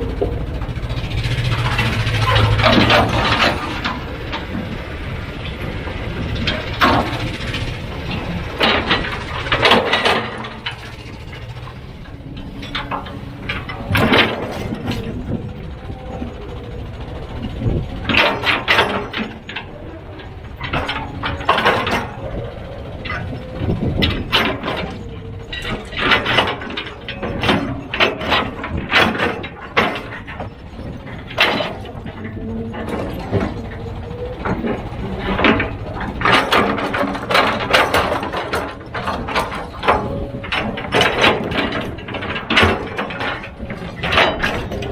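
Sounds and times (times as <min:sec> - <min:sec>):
heavy machinery engine running: 0:00.0 - 0:44.9
metallic clanks and knocks: 0:00.0 - 0:44.9.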